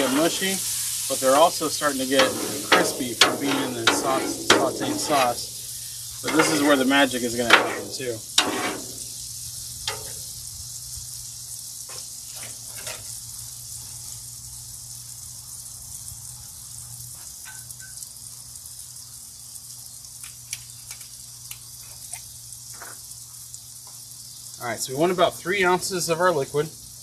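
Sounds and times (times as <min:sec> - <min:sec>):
food sizzling on griddle: 0:00.0 - 0:27.0.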